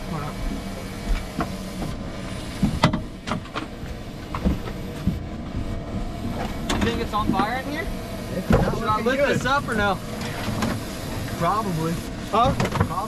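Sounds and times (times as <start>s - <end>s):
knocks and clunks: 0.0s - 11.6s, 12.3s - 13.0s
low mechanical rumble: 0.0s - 13.0s.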